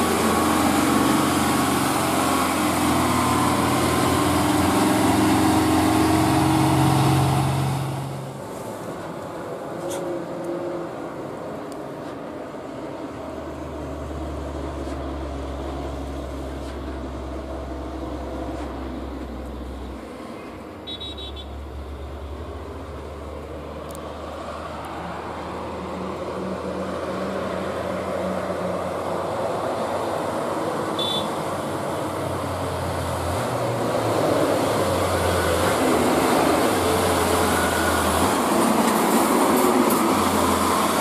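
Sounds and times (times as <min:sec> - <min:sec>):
truck diesel engine drone: 0:00.0 - 0:10.1, 0:10.9 - 0:41.0.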